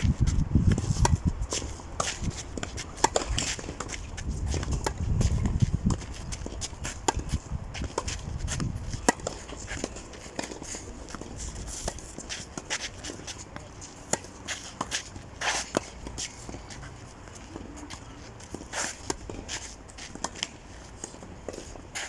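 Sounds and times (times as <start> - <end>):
shoe scrape: 0.0 - 22.0
shoe scuffs on clay court: 0.0 - 22.0
tennis balls bouncing: 0.0 - 22.0.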